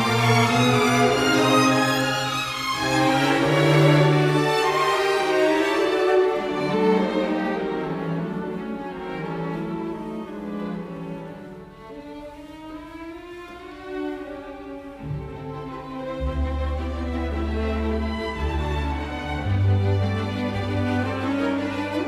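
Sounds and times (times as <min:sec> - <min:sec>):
slow bowed strings: 0:00.0 - 0:22.0.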